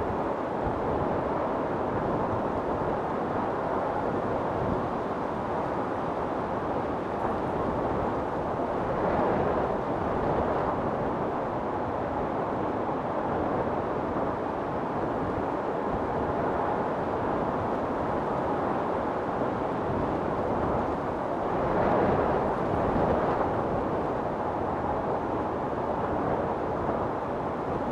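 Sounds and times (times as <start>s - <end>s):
storm wind blowing in gusts: 0.0s - 27.9s.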